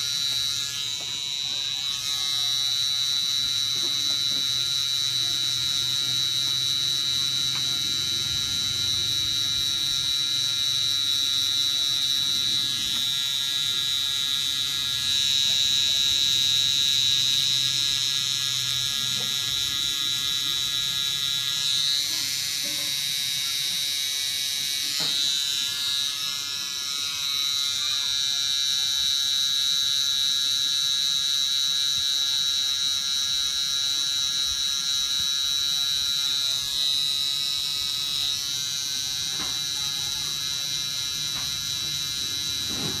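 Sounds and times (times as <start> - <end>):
tattoo pen motor buzz: 0.0 - 43.0.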